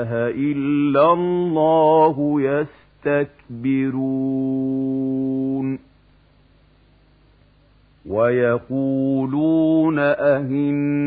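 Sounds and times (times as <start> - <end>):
faint recording hiss: 0.0 - 11.0
low hum: 0.0 - 11.0.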